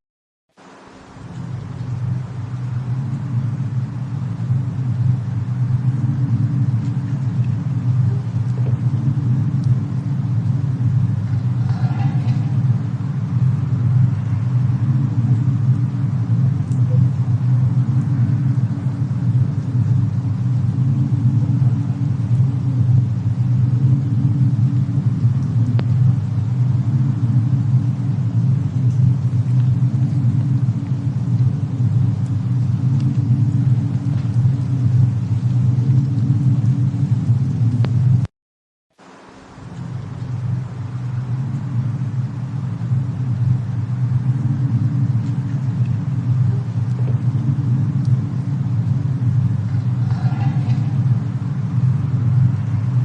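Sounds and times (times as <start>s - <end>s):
fireplace and snowstorm rumble: 0.5s - 38.3s, 38.9s - 53.0s.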